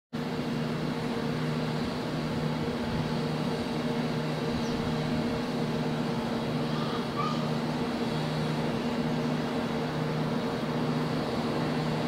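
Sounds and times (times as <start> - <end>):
ship machinery hum: 0.2 - 12.0.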